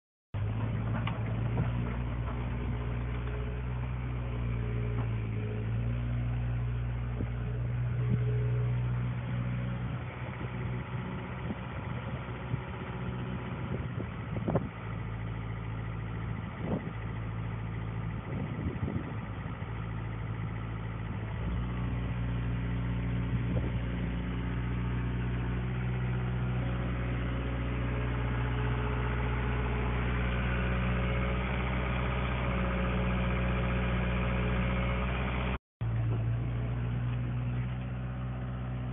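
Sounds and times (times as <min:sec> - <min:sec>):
excavator engine running: 0:00.4 - 0:38.9.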